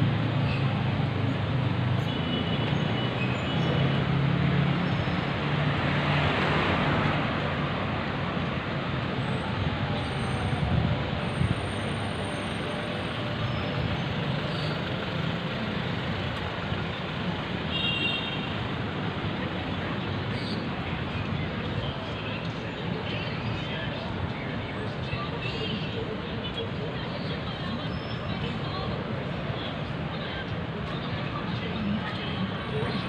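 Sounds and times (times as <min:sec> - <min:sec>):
passing cars and motorcycles: 0:00.0 - 0:33.0.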